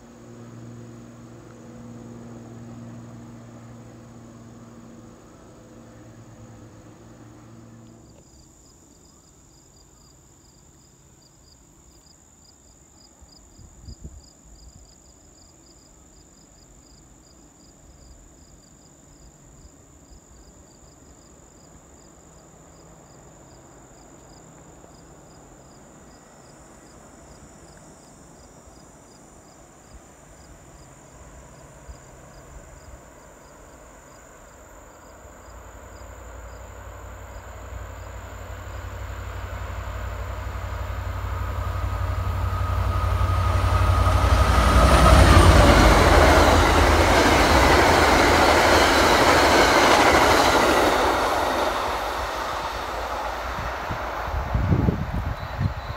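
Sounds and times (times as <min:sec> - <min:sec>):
approaching train rumble: 0:00.0 - 0:12.0, 0:12.8 - 0:55.9
insects chirping: 0:00.0 - 0:55.9.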